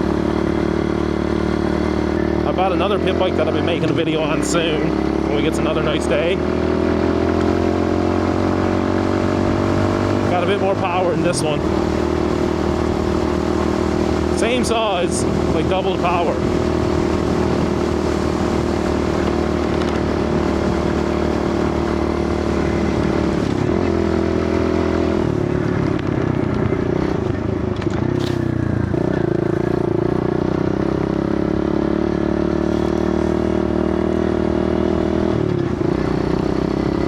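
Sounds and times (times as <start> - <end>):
small motorbike engine running: 0.0 - 34.5.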